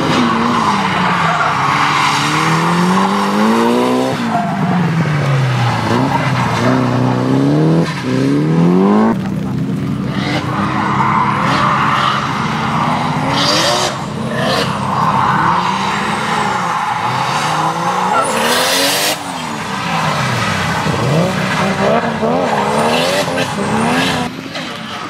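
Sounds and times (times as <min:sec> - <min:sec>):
car engine revving hard: 0:00.0 - 0:04.4, 0:05.3 - 0:24.4
tyre noise on wet tarmac: 0:00.0 - 0:25.0.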